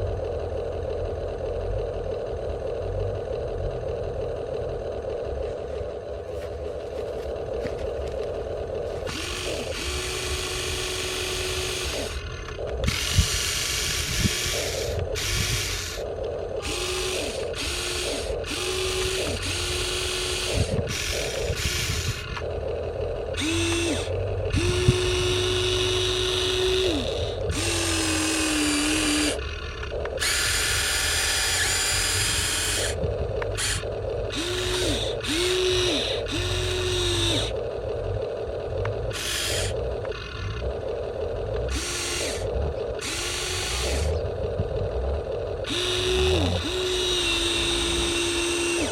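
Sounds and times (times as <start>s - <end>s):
electric motors whirring: 0.0s - 48.9s.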